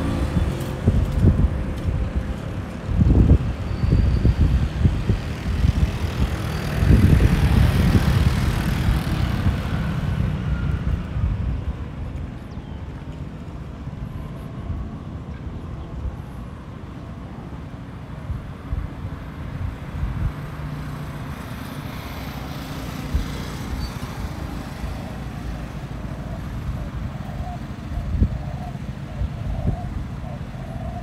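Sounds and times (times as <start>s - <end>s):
road traffic rumble: 0.0s - 31.0s
wind buffeting microphone: 0.0s - 31.0s.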